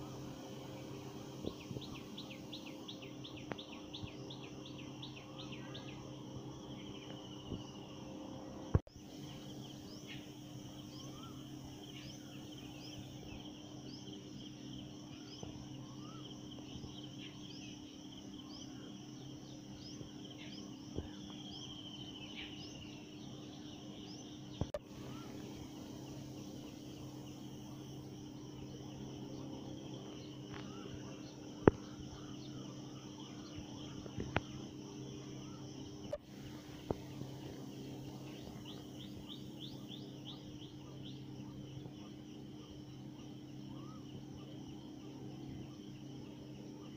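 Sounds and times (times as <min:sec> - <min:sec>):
small birds chirping: 0:00.0 - 0:46.9
steady low hum: 0:00.0 - 0:46.9.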